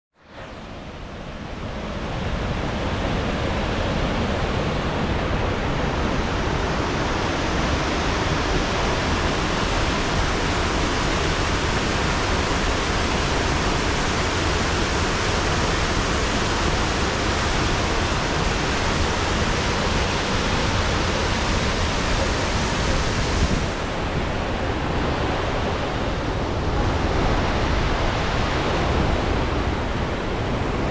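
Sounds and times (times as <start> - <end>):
waterfall rushing over rocks: 0.2 - 30.9.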